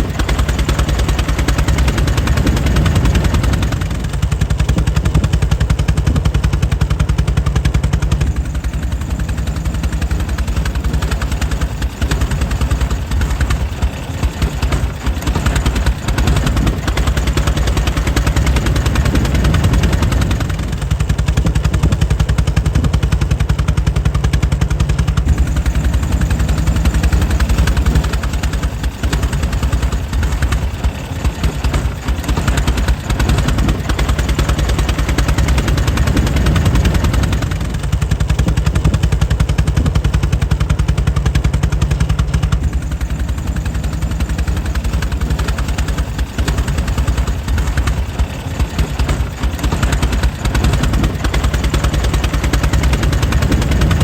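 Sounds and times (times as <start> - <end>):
air-cooled engine running: 0.0 - 54.0.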